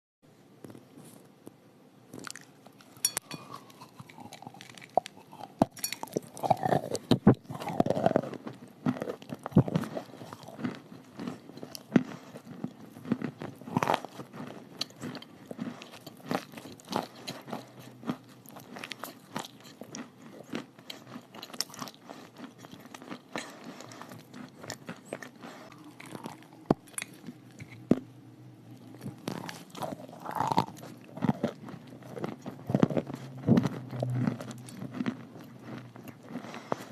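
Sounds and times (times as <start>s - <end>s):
person chewing crunchy chalk: 2.1s - 36.9s.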